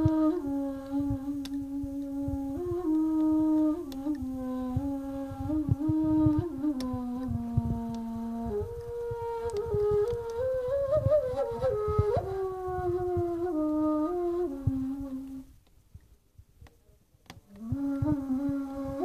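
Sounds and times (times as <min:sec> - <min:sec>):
ney flute slow melody: 0:00.0 - 0:15.6, 0:17.5 - 0:19.0
low thuds: 0:01.0 - 0:16.5.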